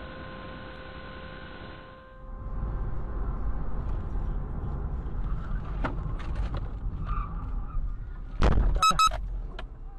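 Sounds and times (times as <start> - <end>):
car tyres and engine rumble: 0.0 - 9.9.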